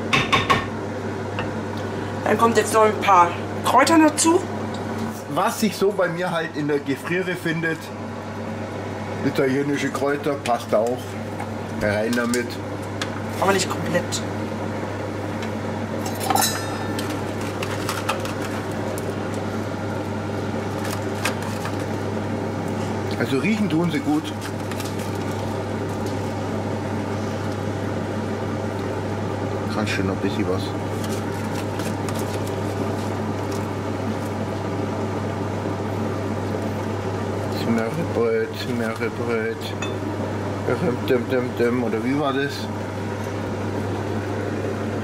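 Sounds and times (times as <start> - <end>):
air fryer humming: 0.0 - 45.0.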